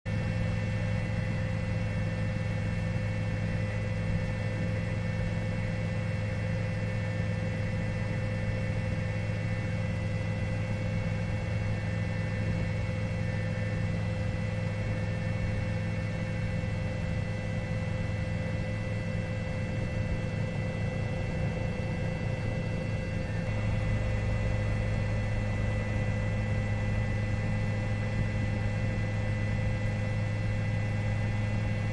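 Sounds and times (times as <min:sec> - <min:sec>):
helicopter engine and rotor drone: 0:00.1 - 0:31.9.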